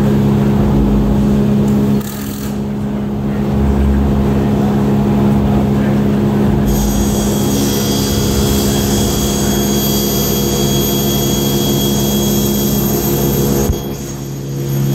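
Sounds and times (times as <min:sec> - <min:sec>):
workshop machinery drone: 0:00.0 - 0:14.9.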